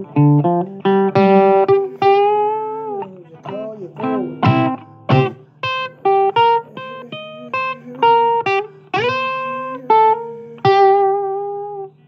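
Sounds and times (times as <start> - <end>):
blues guitar plucked notes: 0.0 - 12.0.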